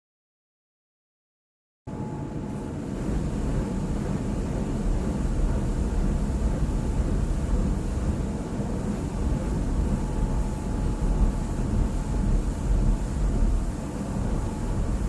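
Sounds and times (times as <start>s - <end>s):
faint steady whine: 1.9s - 15.0s
muffled car wash rumble: 1.9s - 15.0s.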